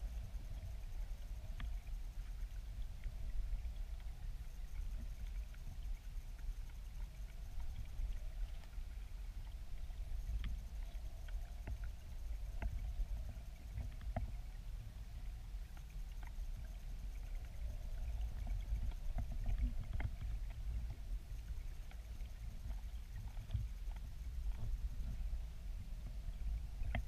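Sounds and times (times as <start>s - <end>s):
faint ticks: 0.0s - 27.0s
underwater river current rumble: 0.0s - 27.0s.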